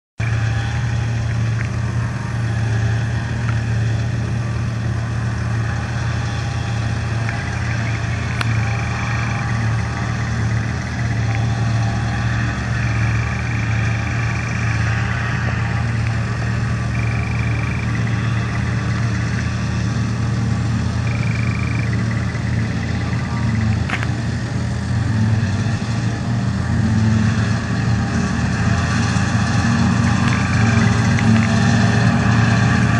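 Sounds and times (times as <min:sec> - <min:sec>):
deep engine drone: 0:00.2 - 0:32.9.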